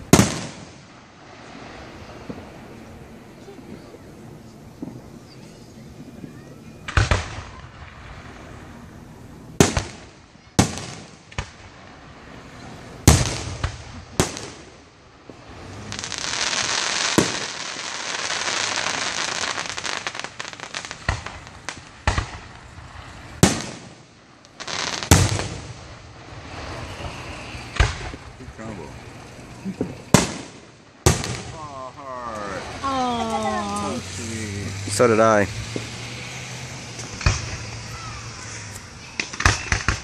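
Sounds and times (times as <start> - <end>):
fireworks bangs: 0.0 - 40.0
fireworks crackling hiss: 0.0 - 40.0.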